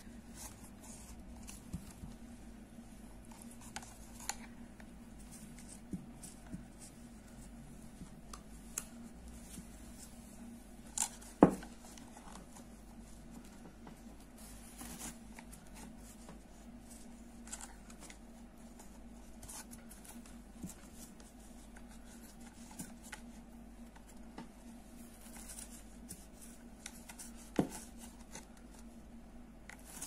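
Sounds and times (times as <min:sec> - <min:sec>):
faint steady hum: 0:00.0 - 0:30.0
soft rustling of yarn: 0:00.0 - 0:30.0.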